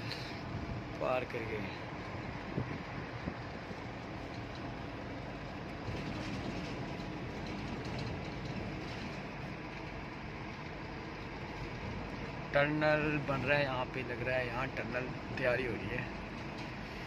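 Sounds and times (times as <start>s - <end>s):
engine and road noise in cabin: 0.0s - 17.0s.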